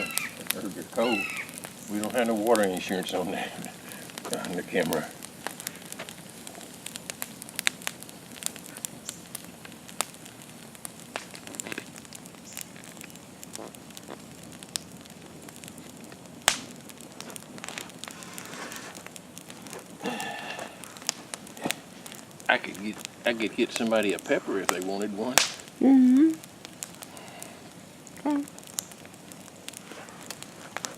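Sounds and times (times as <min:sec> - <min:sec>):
campfire crackling: 0:00.0 - 0:30.9
low hiss: 0:00.0 - 0:30.9
sharp snaps and pops: 0:00.0 - 0:30.9.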